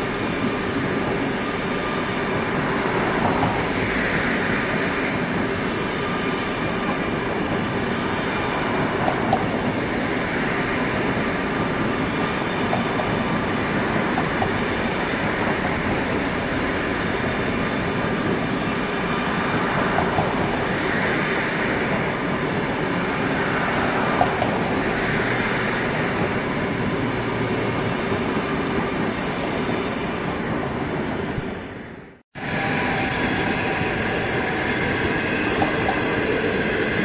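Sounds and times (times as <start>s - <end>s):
train wheel and rail noise: 0.0s - 37.0s.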